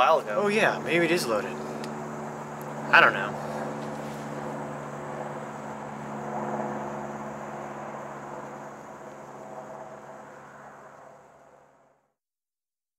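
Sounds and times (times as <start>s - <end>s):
outdoor rumble and hiss: 0.0s - 11.8s.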